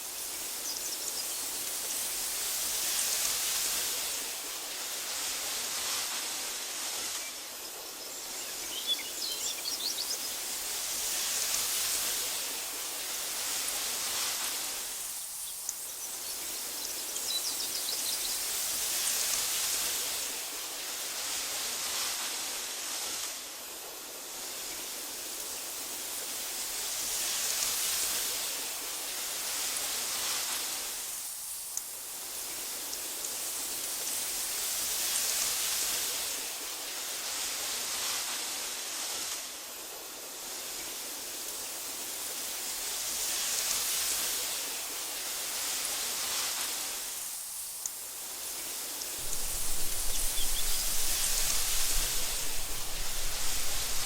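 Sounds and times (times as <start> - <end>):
wind rustling tall grass: 0.0 - 54.0.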